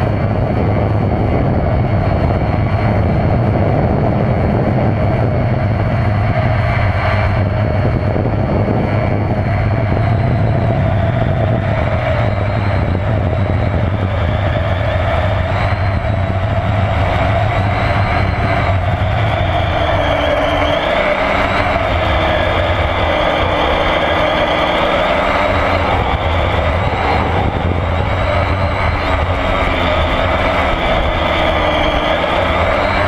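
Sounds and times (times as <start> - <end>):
electric motor and propeller whine: 0.0 - 33.0
wind rush on microphone: 0.0 - 33.0.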